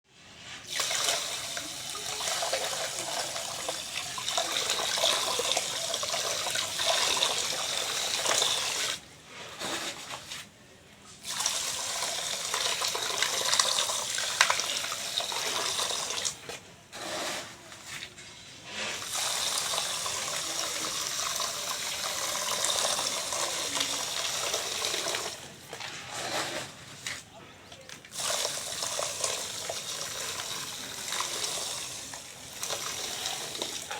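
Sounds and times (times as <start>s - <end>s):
powder poured into water: 0.2s - 27.3s, 27.9s - 33.9s.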